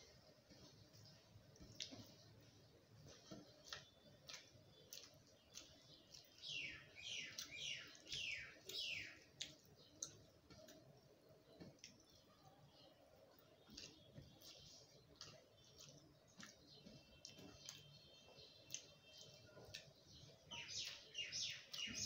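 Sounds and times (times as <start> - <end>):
mouth chewing: 0.0 - 22.0.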